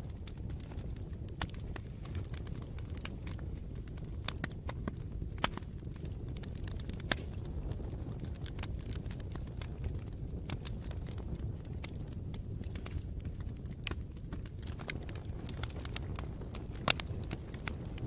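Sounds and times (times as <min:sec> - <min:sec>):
campfire crackling and popping: 0:00.0 - 0:18.0
low rumble of burning fire: 0:00.0 - 0:18.0.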